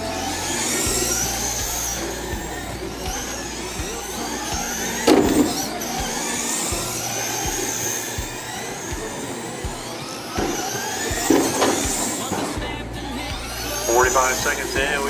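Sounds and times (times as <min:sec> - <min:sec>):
remote-control cars whining: 0:00.0 - 0:15.0.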